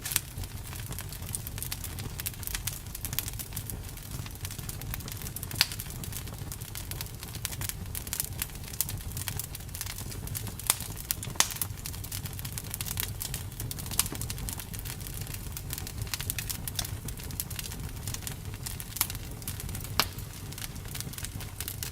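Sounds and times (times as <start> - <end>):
campfire crackling and popping: 0.0 - 21.9
low fire rumble: 0.0 - 21.9.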